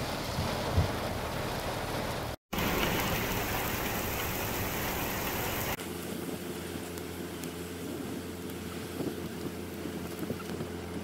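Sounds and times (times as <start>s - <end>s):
heavy rain on sand and puddles: 0.0s - 11.0s.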